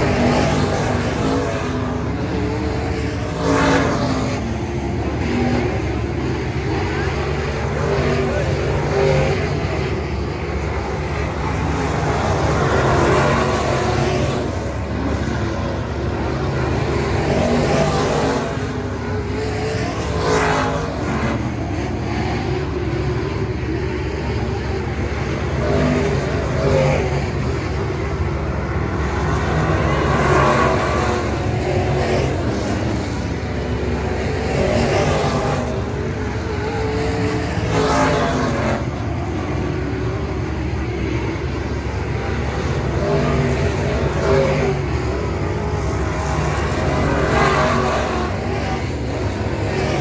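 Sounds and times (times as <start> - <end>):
race car engines at full throttle: 0.0 - 50.0.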